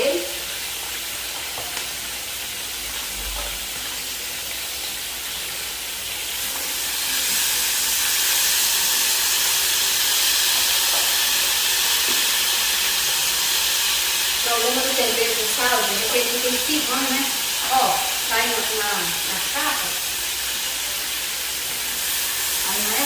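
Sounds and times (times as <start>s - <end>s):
sausage sizzling in a pan: 0.0s - 23.0s.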